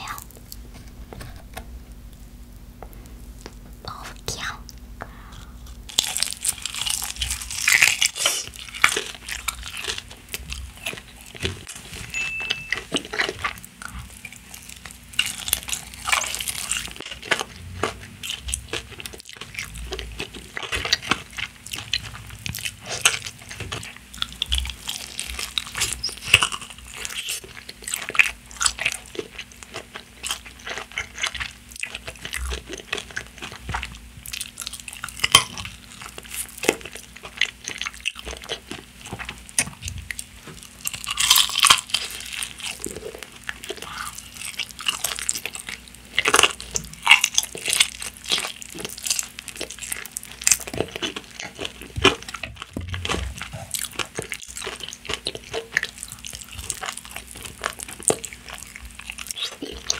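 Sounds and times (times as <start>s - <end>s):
crunchy bites and chewing: 5.5s - 59.9s.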